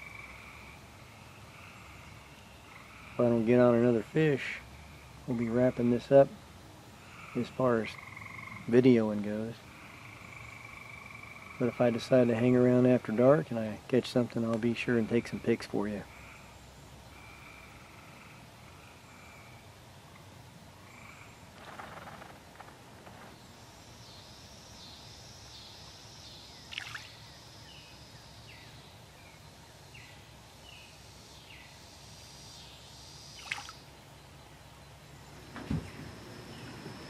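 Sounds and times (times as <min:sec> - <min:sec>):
frogs calling: 0:00.0 - 0:13.8, 0:14.6 - 0:37.0.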